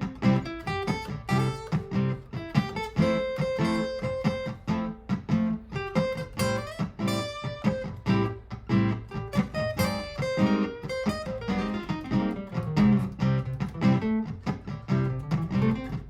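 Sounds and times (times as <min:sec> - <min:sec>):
acoustic guitar strummed and plucked: 0:00.0 - 0:16.0.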